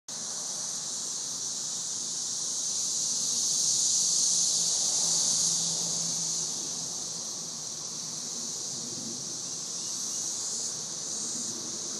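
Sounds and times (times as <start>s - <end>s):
cicadas droning: 0.1s - 11.9s.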